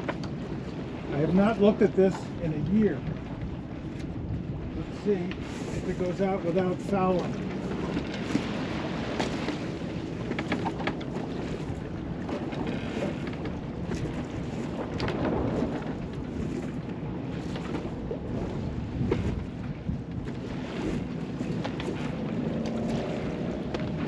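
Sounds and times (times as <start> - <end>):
water washing along hull: 0.0 - 24.0
wind buffeting microphone: 0.0 - 24.0.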